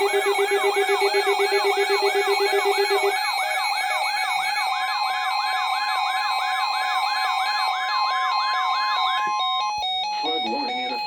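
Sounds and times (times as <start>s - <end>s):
steady alarm tones: 0.0s - 11.0s
warbling alarm tone: 0.0s - 11.0s.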